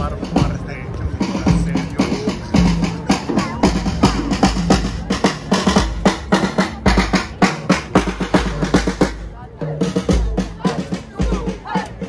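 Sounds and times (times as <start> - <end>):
marching band playing: 0.0 - 12.0
steady drumbeat: 0.0 - 12.0.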